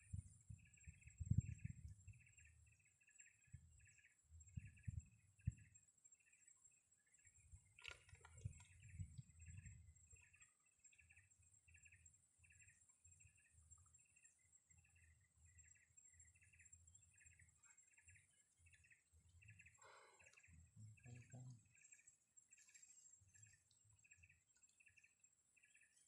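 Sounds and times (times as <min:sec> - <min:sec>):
bird chirping faintly: 0:00.0 - 0:26.0.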